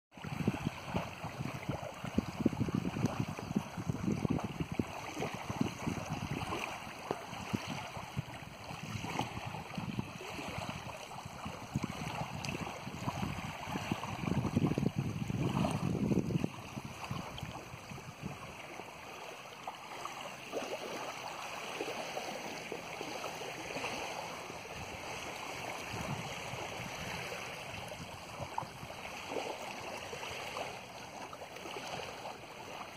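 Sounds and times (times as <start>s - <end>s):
small waves lapping on sand: 0.1s - 32.9s
wind buffeting microphone: 0.2s - 19.2s, 21.9s - 30.6s.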